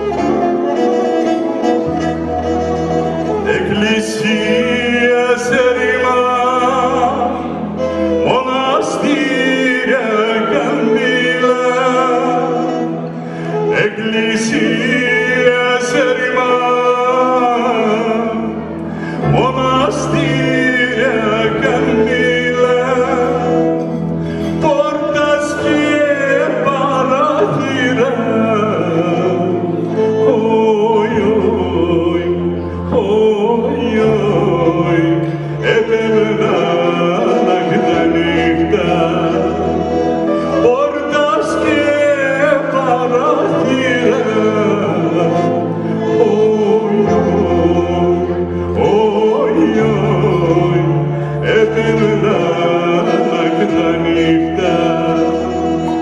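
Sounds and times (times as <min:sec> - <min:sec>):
instrumental accompaniment: 0:00.0 - 0:56.0
man singing folk song: 0:02.0 - 0:56.0.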